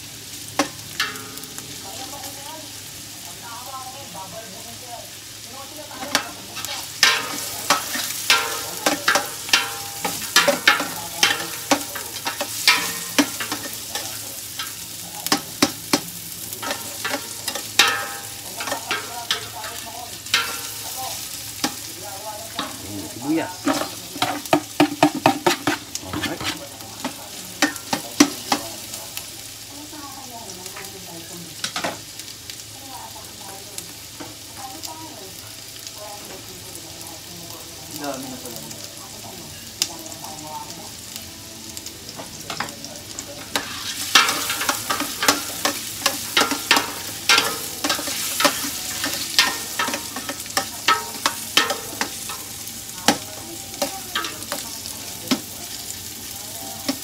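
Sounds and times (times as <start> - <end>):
sizzling in hot oil: 0.0 - 57.0.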